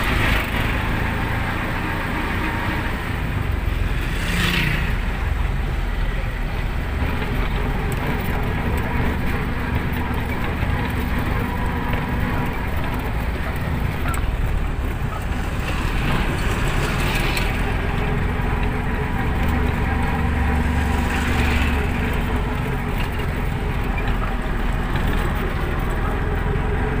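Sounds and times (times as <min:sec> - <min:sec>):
low road rumble: 0:00.0 - 0:27.0
vehicle engine running: 0:00.0 - 0:27.0.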